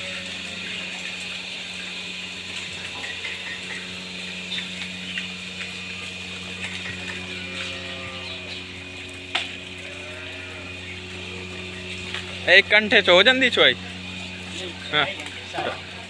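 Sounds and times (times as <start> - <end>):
pump machinery humming and hissing: 0.0 - 16.0.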